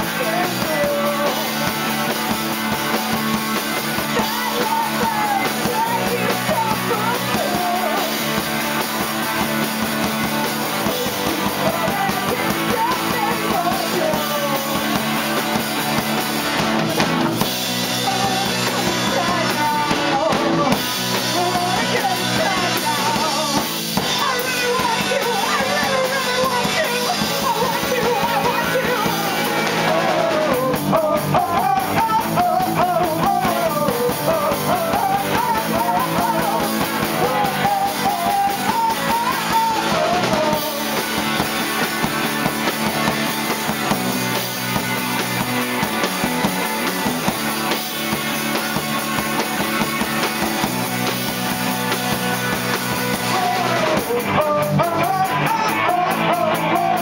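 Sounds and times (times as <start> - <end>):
distorted electric guitars: 0.0 - 57.0
drum kit: 0.0 - 57.0.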